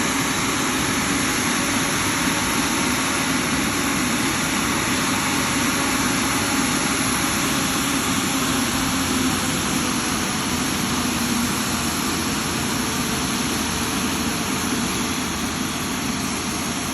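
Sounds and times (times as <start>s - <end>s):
jet engine rush: 0.0s - 16.9s.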